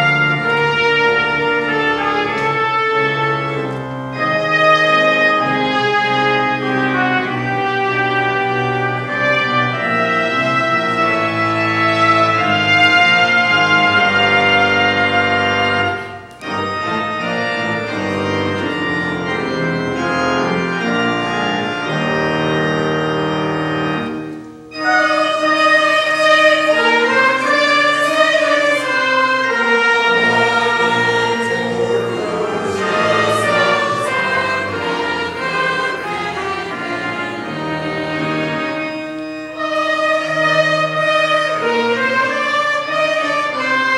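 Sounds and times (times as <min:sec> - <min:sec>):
church choir singing: 0:00.0 - 0:43.9
church organ chords: 0:00.0 - 0:43.9.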